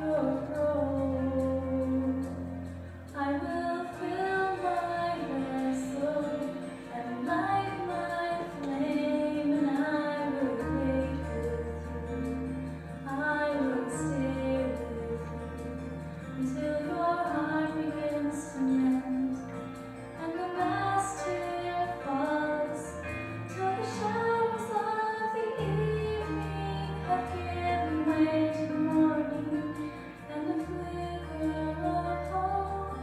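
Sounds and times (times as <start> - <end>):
instrumental accompaniment: 0.0 - 33.0
woman singing into microphone: 0.0 - 33.0.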